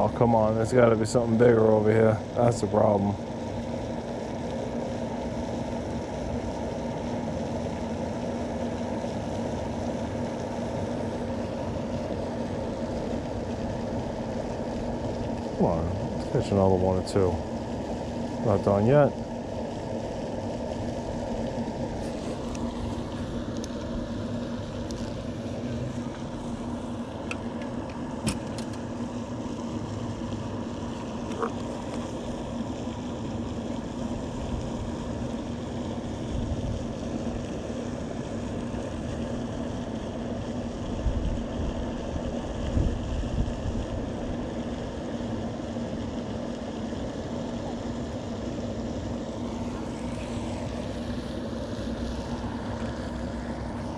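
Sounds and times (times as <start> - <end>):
steady mechanical hum: 0.0 - 53.9.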